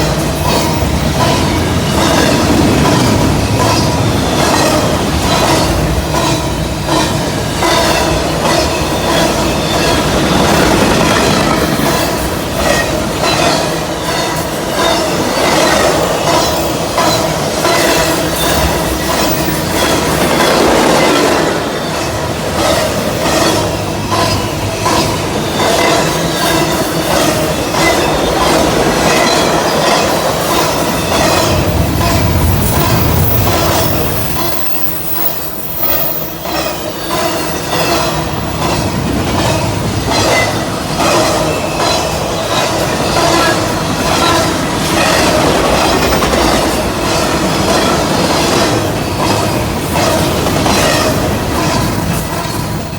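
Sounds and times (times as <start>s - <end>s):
freight train rumbling past: 0.0s - 52.9s
wheels clacking over rail joints: 0.0s - 52.9s.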